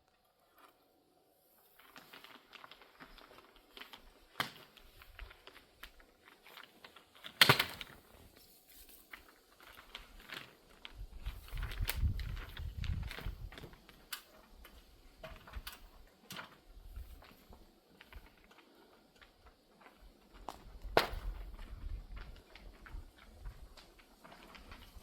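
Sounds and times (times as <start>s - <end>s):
plastic film crinkling: 1.5s - 25.0s.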